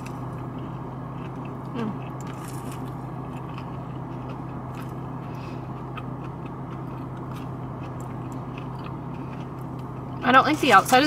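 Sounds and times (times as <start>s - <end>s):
biting and chewing fried chicken: 0.0s - 10.2s
steady low hum: 0.0s - 11.0s.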